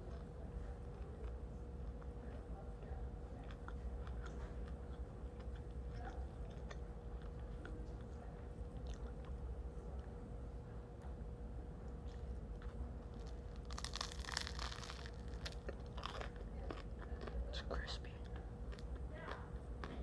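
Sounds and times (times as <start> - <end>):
person chewing bread: 0.0 - 11.2, 11.8 - 20.0
steady low hum: 0.0 - 20.0.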